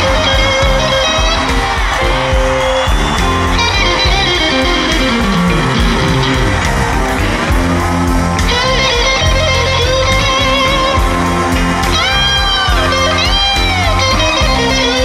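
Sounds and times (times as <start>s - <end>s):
bass guitar: 0.0s - 15.0s
drums: 0.0s - 15.0s
electric guitar lead with bent notes: 0.0s - 15.0s.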